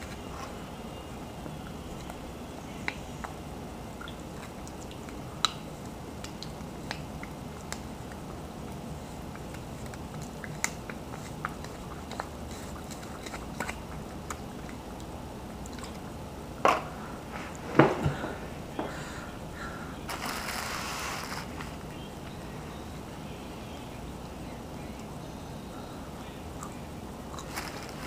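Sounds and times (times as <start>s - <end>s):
low room noise: 0.0s - 28.0s.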